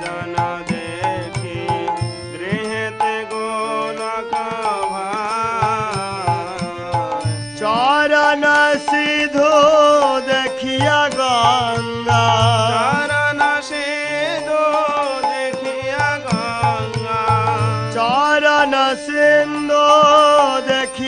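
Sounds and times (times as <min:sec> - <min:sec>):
devotional song melody: 0:00.0 - 0:21.0.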